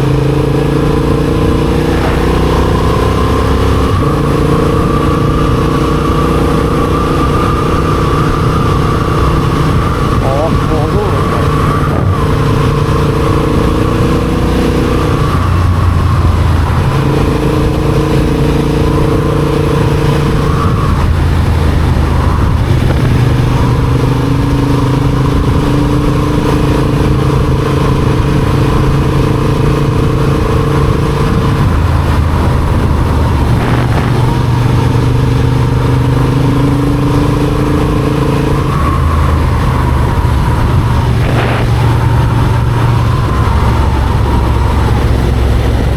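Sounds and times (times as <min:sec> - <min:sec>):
motorcycle engine running: 0:00.0 - 0:45.9
steady rushing noise: 0:00.0 - 0:45.9.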